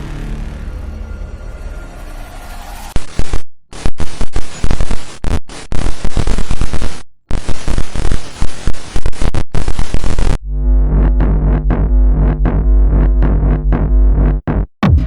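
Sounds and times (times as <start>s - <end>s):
harsh stuttering static noise: 2.0s - 14.6s.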